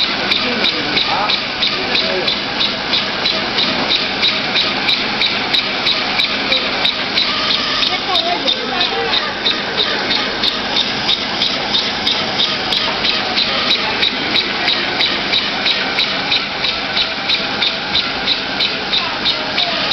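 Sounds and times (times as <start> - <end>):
sharp machine clicks: 0.0 - 19.9.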